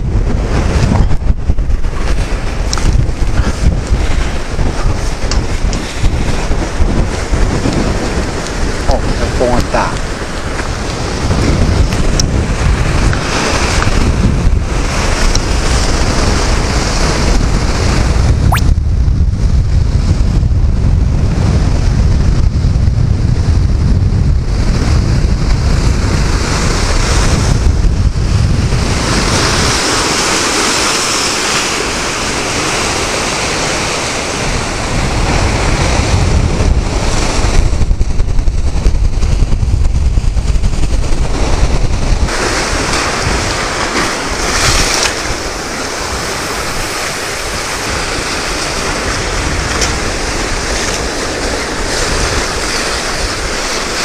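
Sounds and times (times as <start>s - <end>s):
sea surf washing against concrete: 0.0s - 18.7s, 23.7s - 54.0s
wind rumbling on microphone: 0.0s - 54.0s.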